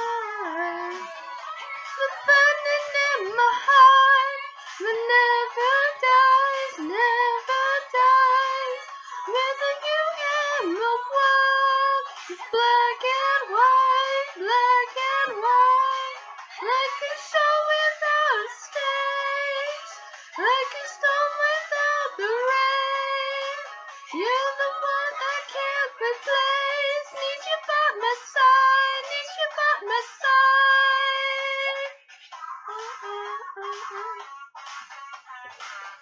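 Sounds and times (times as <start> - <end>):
girl singing wordless melody: 0.0 - 35.6.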